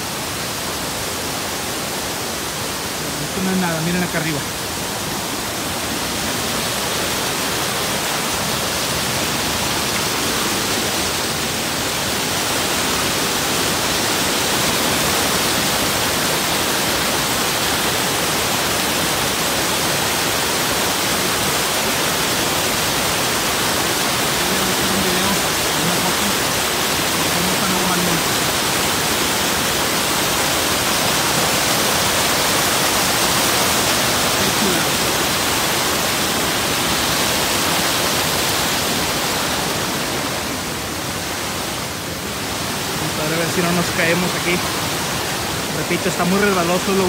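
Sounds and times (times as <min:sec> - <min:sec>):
waterfall rushing over rocks: 0:00.0 - 0:47.0.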